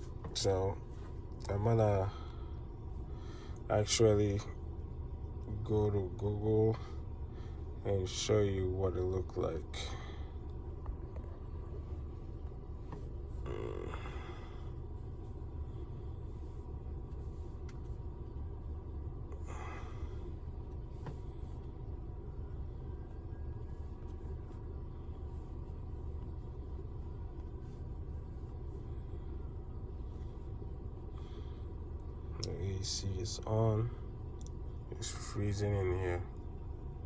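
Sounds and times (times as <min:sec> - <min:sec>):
car cabin air conditioning hum: 0:00.0 - 0:37.0.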